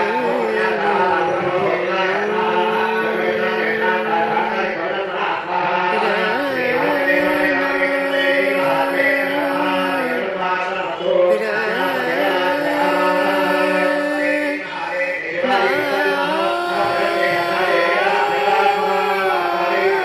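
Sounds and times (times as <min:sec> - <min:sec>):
person chanting long notes: 0:00.0 - 0:05.0, 0:05.9 - 0:20.0.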